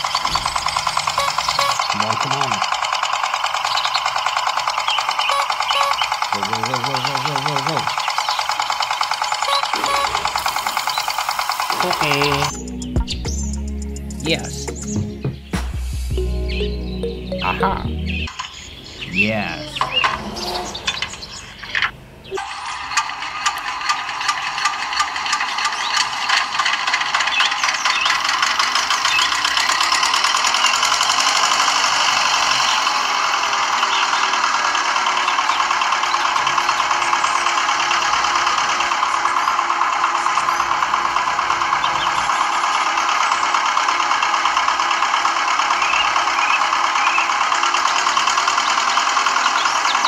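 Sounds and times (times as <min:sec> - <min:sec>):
miniature engine running: 0:00.0 - 0:12.6, 0:21.8 - 0:50.0.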